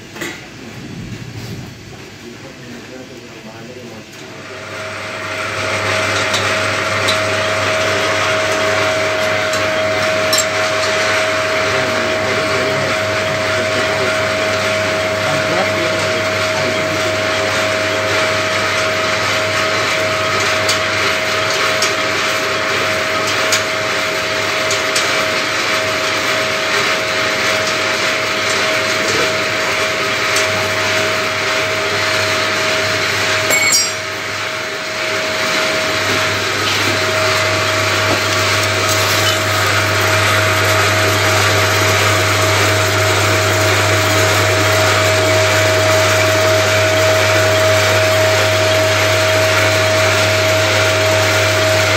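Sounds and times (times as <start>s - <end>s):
machine hum with whine: 0.0s - 51.9s.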